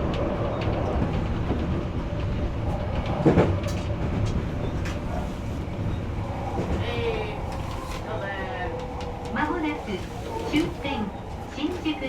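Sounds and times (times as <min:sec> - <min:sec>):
electric train rumbling on track: 0:00.0 - 0:12.0.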